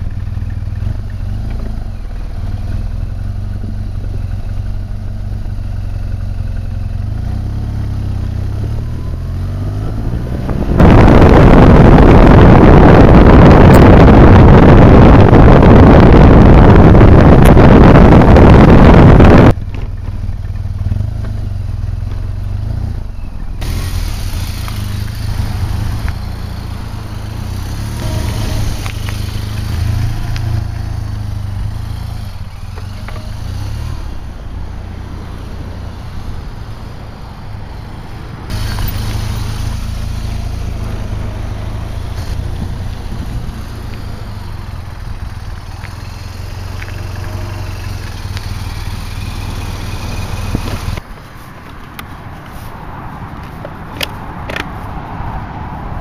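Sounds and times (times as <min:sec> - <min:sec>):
motorcycle engine rumbling: 0:00.0 - 0:55.0.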